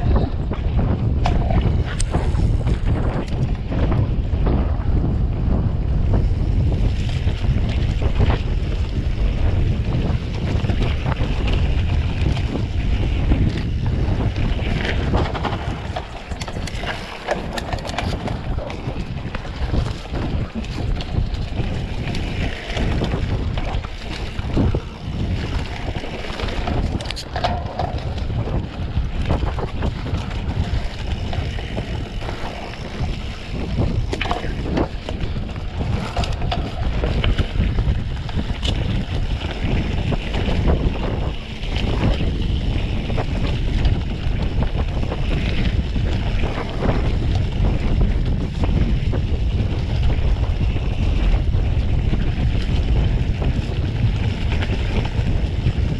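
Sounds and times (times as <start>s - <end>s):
bike clicks and knocks: 0.0s - 55.9s
wind buffeting microphone: 0.0s - 55.9s.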